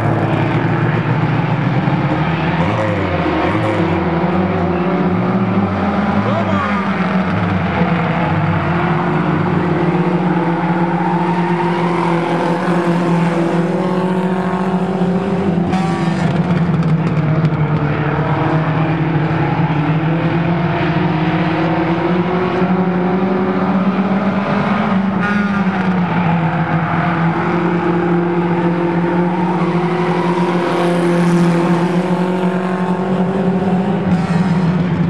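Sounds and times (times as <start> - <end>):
race car engines running: 0.0 - 35.0.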